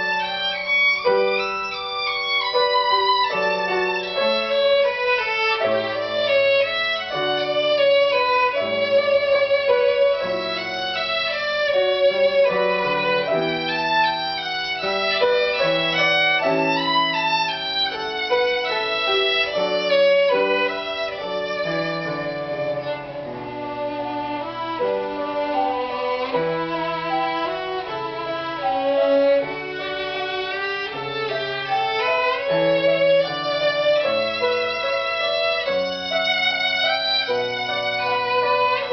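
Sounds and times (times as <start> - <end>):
violin melody with vibrato: 0.0 - 38.9.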